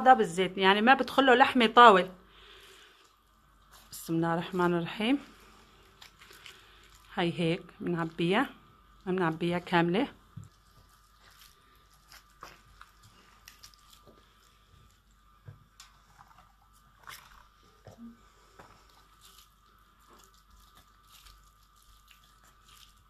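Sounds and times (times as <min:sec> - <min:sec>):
soft squishes of rice stuffing: 0:02.3 - 0:23.0.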